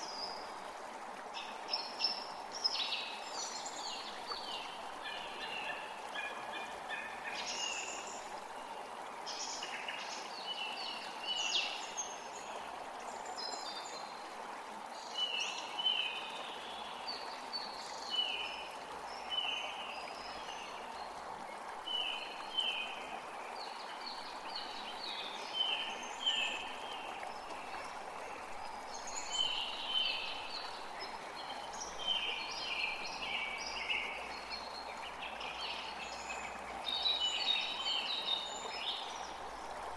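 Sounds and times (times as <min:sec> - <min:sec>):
creek running: 0:00.0 - 0:39.9
songbirds chirping: 0:00.0 - 0:39.9.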